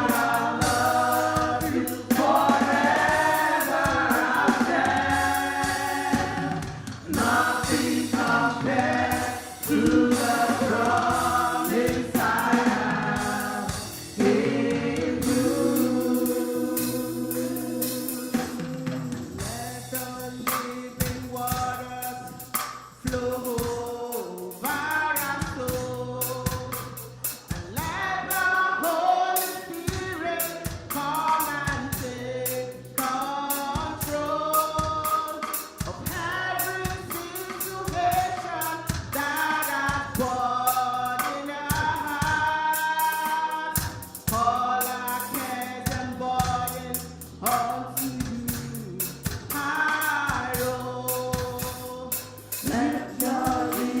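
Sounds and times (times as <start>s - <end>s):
group of voices singing: 0.0s - 22.4s, 23.0s - 54.0s
band with drum beat and bass: 0.0s - 54.0s.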